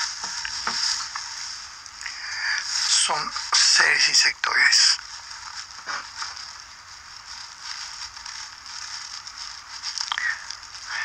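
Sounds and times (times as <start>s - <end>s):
steady hiss with crackling: 0.0s - 11.0s.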